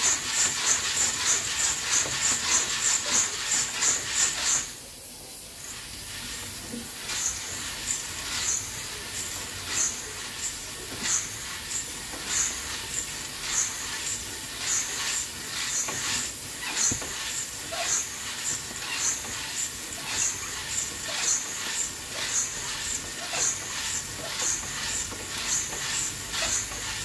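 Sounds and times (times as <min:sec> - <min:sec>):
short swish of roaster: 0:00.0 - 0:04.8, 0:05.8 - 0:27.0
coffee roaster hissing: 0:00.0 - 0:27.0.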